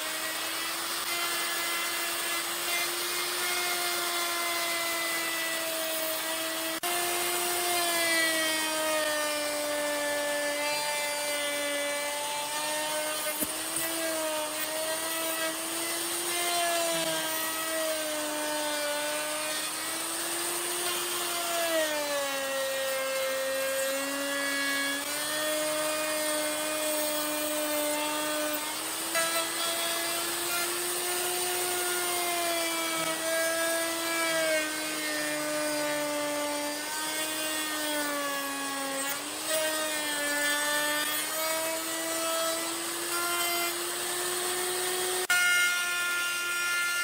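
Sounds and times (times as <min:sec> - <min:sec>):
power tool whining cutting wood: 0:00.0 - 0:47.0.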